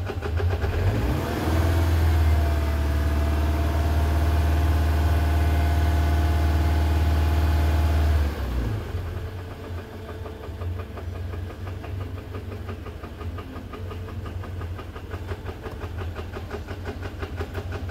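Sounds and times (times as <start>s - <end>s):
car engine idling: 0.0s - 17.9s
fast ticking engine rattle: 0.0s - 17.9s.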